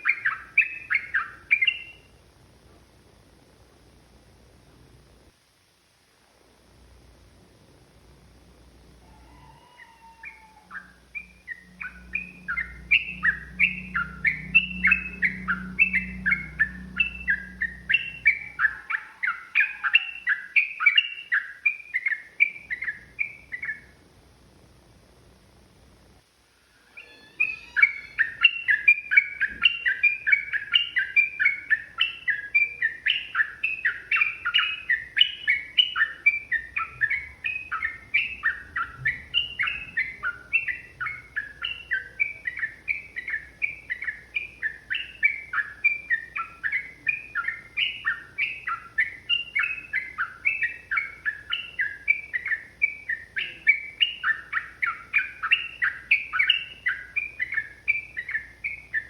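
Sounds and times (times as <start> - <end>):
bird chirping: 0.0 - 2.3, 8.4 - 24.1, 26.6 - 59.0.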